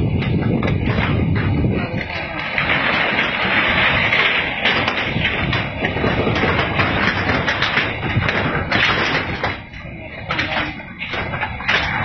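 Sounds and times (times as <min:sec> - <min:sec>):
loud rushing noise: 0:00.0 - 0:12.0.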